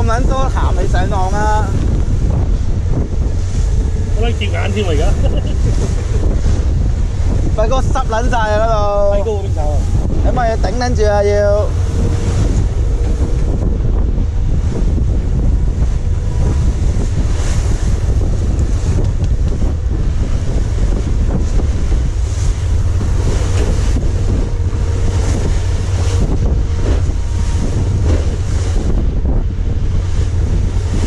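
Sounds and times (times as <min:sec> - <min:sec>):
waves breaking against boat hull: 0:00.0 - 0:31.0
wind buffeting microphone: 0:00.0 - 0:31.0.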